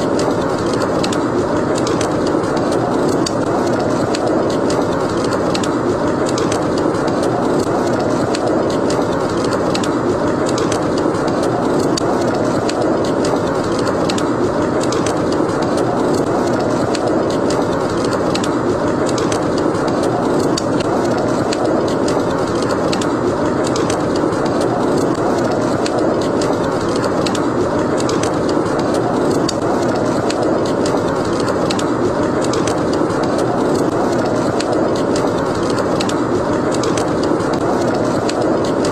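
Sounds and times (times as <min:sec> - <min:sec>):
snowstorm wind: 0:00.0 - 0:38.9
wood fire crackling: 0:00.0 - 0:38.9.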